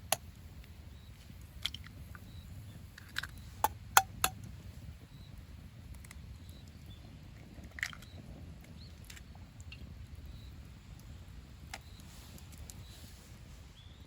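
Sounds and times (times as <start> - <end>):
campfire crackling: 0.0 - 13.5.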